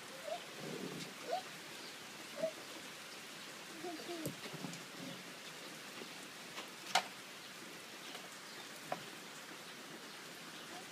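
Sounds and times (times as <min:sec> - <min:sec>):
light rain on a patio: 0:00.0 - 0:10.9.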